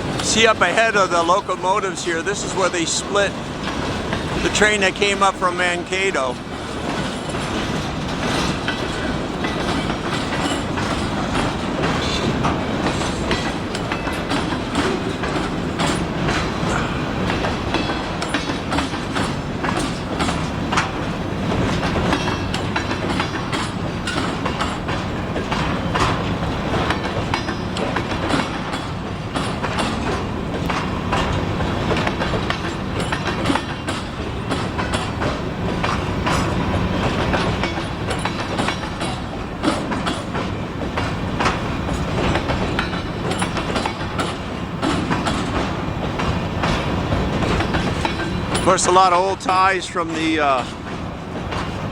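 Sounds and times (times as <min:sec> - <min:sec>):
freight train rumbling by: 0:00.0 - 0:51.9
wheels clattering over rail joints: 0:00.0 - 0:51.9.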